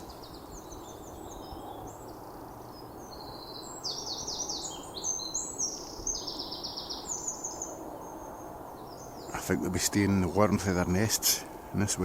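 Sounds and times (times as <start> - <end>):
songbird trilling: 0.0 - 11.2
low outdoor background hum: 0.0 - 12.0.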